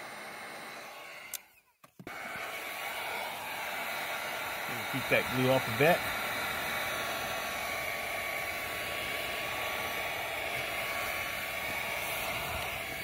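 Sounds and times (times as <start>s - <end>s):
heat gun blowing: 0.0s - 13.0s.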